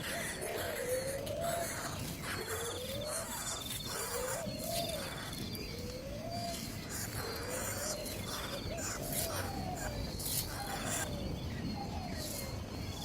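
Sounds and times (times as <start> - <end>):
bird calling with low notes: 0.0 - 13.0.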